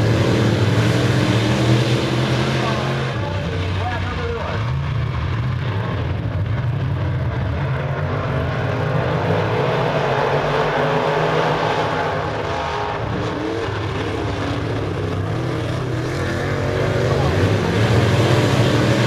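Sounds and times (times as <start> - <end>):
race car engines droning: 0.0 - 19.0.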